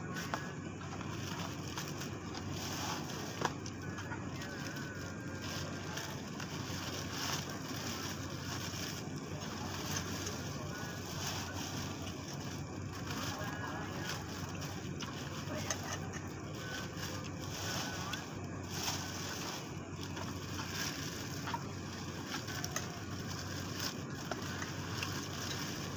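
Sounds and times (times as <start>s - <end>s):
low outdoor rumble: 0.0s - 25.9s.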